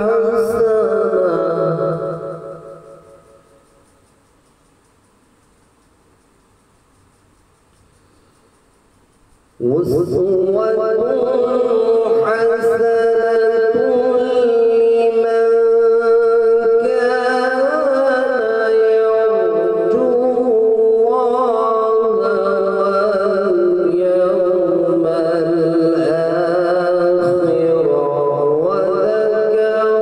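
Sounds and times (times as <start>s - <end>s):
man chanting melodically: 0.0s - 4.0s, 9.5s - 30.0s.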